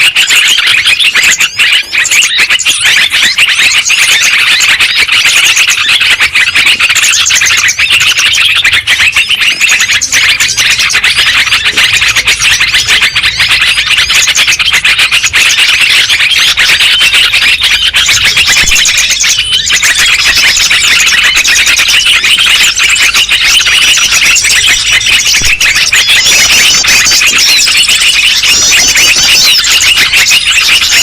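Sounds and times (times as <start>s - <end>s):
many small birds chirping: 0.0s - 31.0s.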